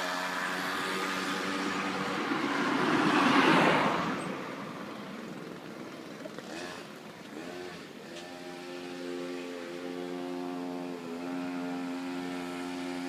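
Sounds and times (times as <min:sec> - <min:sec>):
two-stroke go-kart engine running: 0:00.0 - 0:02.7, 0:04.4 - 0:13.0.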